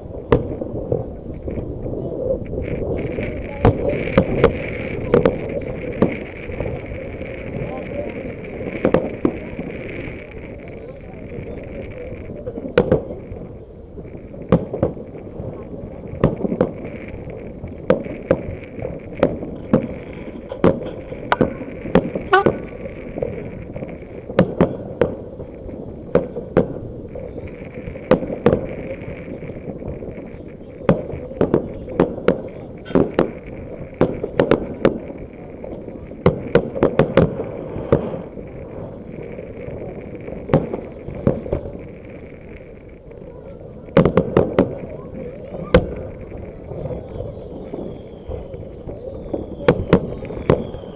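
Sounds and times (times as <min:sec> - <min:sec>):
fireworks bursting: 0:00.0 - 0:50.9.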